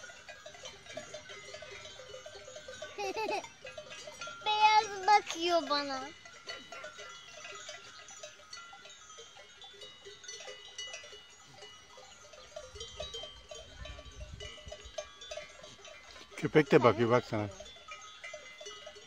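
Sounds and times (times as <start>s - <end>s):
goat bells clanking: 0.0s - 19.0s.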